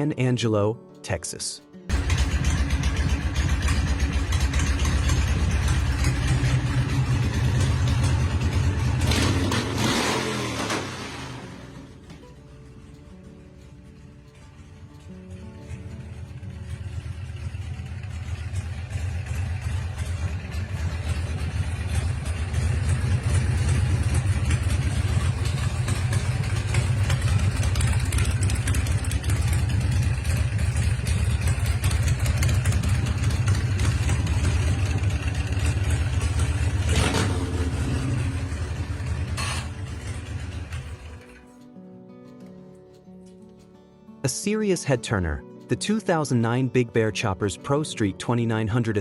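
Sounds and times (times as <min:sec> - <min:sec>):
motorcycle engine deep rumble: 0:01.9 - 0:41.4.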